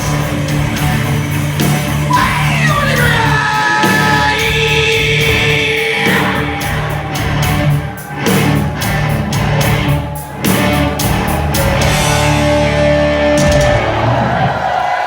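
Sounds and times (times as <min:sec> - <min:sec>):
electric guitar: 0:00.0 - 0:14.5
drums and cymbals pounding: 0:00.0 - 0:15.0.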